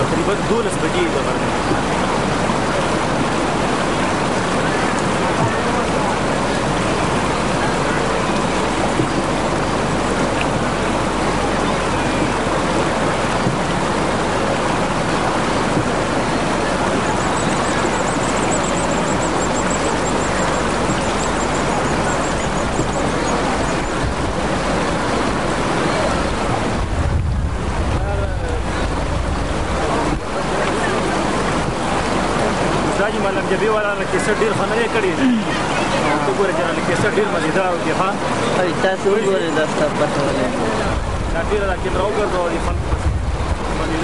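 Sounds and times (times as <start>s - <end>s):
river water roaring over rocks: 0.0s - 44.0s
wind rumble on microphone: 1.3s - 33.2s, 40.6s - 44.0s.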